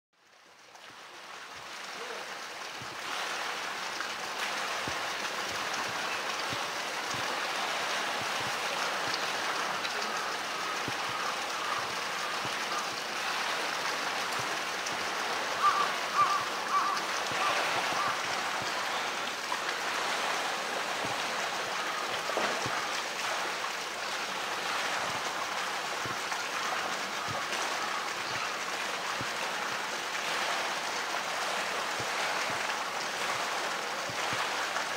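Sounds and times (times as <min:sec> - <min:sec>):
water sloshing and splashing: 0:00.6 - 0:34.9.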